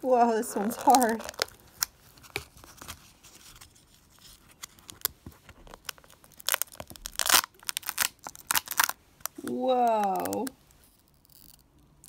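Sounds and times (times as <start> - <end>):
foil wrapper crinkling and tearing: 0.3 - 12.0.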